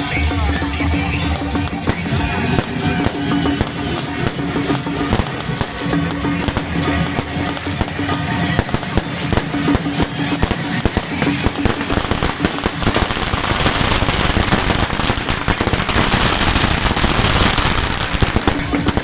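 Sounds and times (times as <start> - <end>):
firecrackers popping: 0.0 - 19.0.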